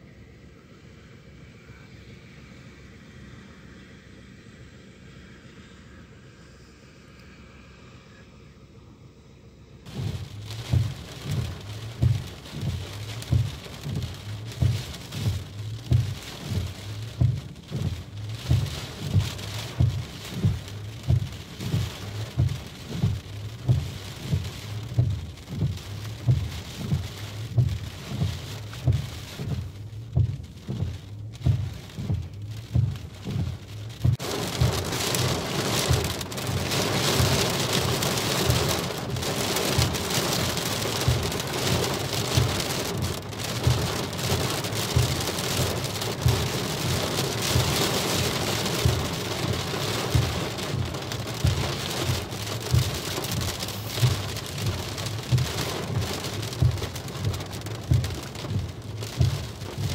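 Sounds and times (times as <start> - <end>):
rain on car windscreen and roof: 9.8 - 59.9
regular low thump: 9.9 - 59.9.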